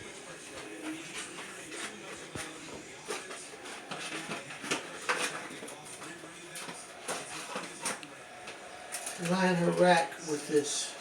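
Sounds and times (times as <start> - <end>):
aluminum foil crinkling: 0.3 - 10.8.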